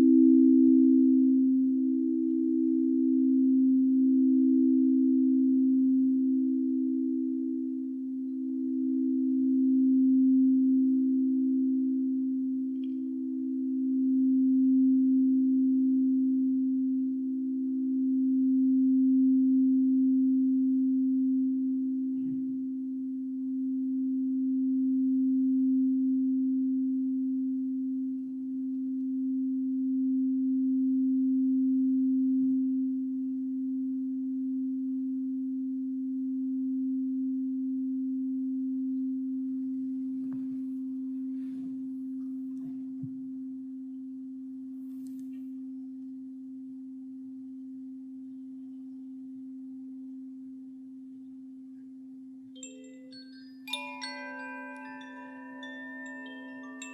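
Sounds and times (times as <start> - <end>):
singing bowl humming: 0.0 - 56.9.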